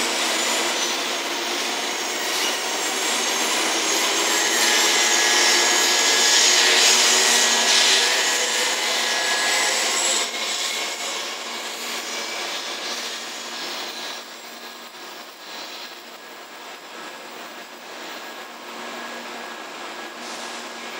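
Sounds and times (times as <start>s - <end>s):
train running with whine: 0.0s - 20.9s.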